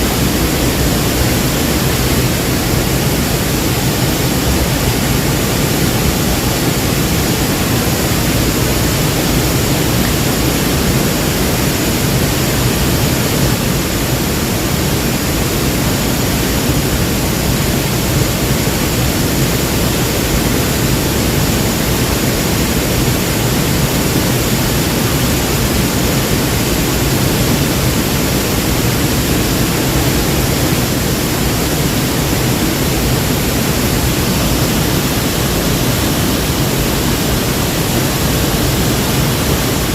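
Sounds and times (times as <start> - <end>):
waterfall: 0.0 - 39.9.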